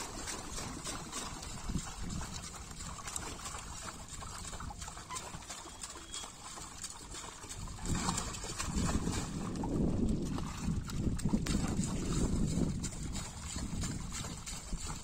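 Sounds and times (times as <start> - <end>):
fish splashing in net: 0.0 - 15.0
water lapping: 0.0 - 15.0.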